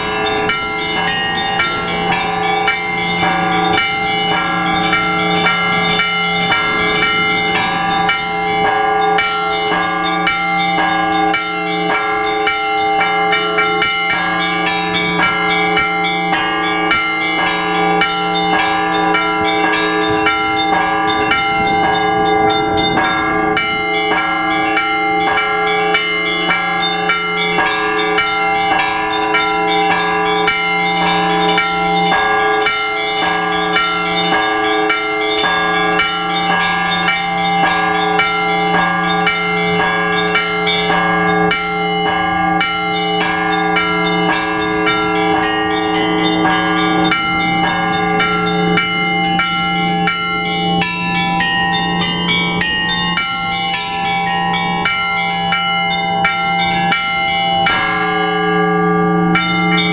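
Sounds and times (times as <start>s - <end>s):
hum of large bells: 0.0s - 59.9s
small bells striking rhythmically: 0.0s - 59.9s.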